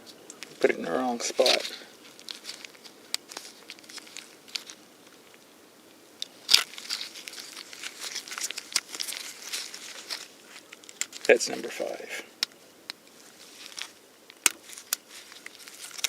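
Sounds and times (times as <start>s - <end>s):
wires and connector rustling: 0.0s - 16.0s.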